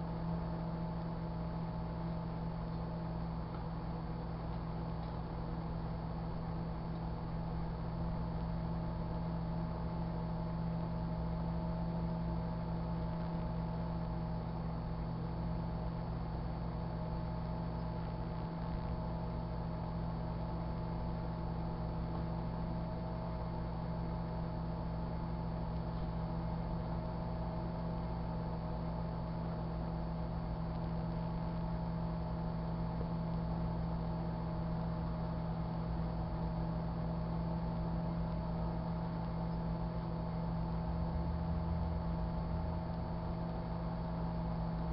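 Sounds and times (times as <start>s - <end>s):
microwave oven humming: 0.0s - 44.9s.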